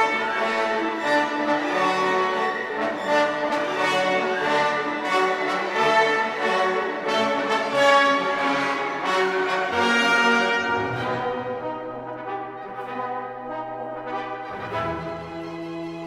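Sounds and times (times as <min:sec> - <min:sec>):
orchestral music with brass: 0:00.0 - 0:16.0.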